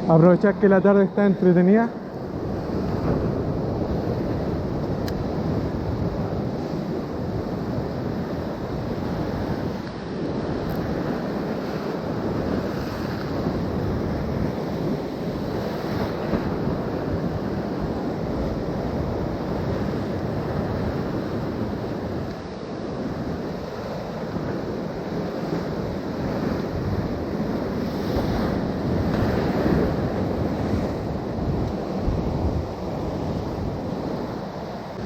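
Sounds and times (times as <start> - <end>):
ocean surf washing ashore: 0.0 - 35.0
wind buffeting microphone: 0.0 - 35.0.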